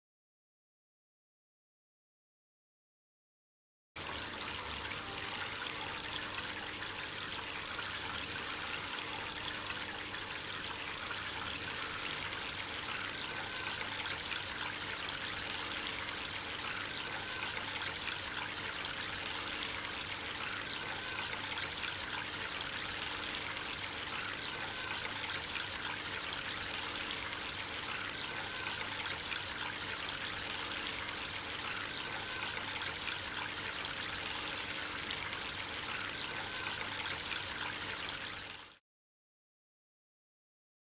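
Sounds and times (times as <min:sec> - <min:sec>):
fountain water trickling: 0:04.0 - 0:38.8.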